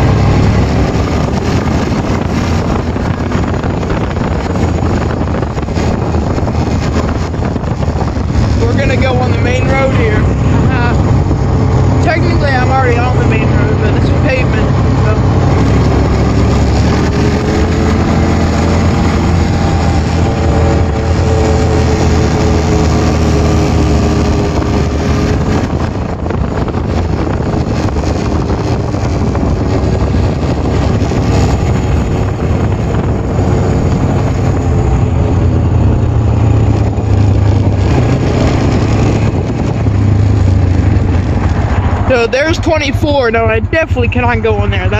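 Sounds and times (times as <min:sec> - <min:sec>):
atv engine running: 0:00.0 - 0:44.9
wind noise on microphone: 0:00.0 - 0:44.9.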